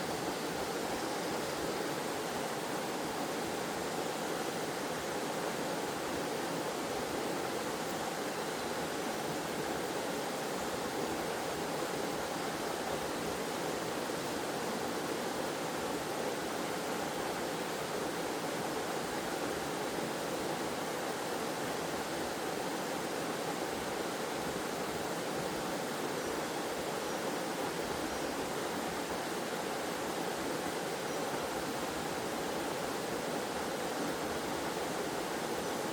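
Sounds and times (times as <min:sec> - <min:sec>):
waterfall and stream rushing: 0:00.0 - 0:35.9.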